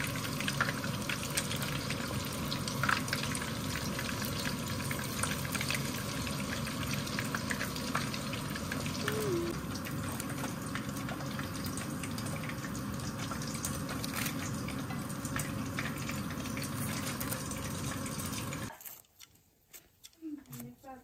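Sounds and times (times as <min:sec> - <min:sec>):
hot oil sizzling in a frying pan: 0:00.0 - 0:18.7.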